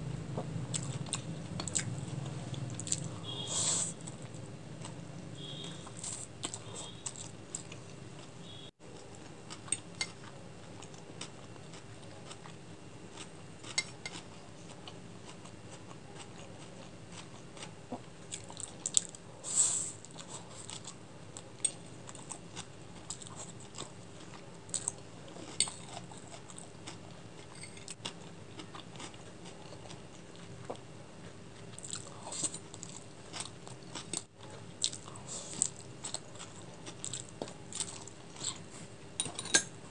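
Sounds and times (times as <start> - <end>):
person chewing noodles: 0.3 - 39.4.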